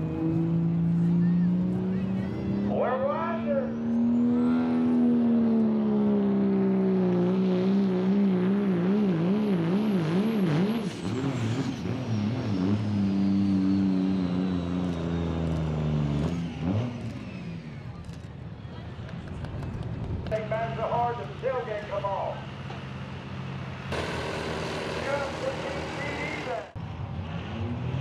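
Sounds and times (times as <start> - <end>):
diesel truck engine at full throttle: 0.0 - 28.0.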